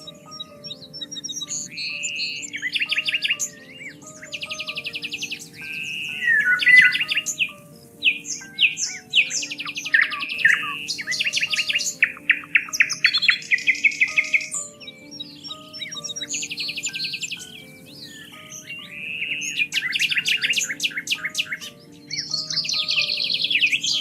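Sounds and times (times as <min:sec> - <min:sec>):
soft background music: 0:00.0 - 0:24.0
songbirds chirping and singing: 0:00.0 - 0:24.0.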